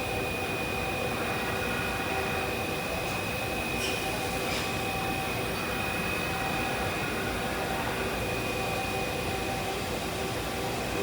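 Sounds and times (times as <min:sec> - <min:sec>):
machine spindle humming and whining: 0:00.0 - 0:11.0.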